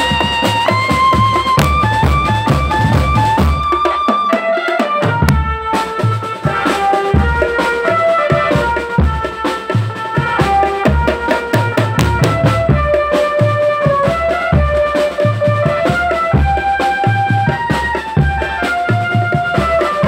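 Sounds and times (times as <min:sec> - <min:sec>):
drum band playing: 0:00.0 - 0:20.0
melody of held notes: 0:00.0 - 0:20.0
tenor drum strokes: 0:00.0 - 0:20.0.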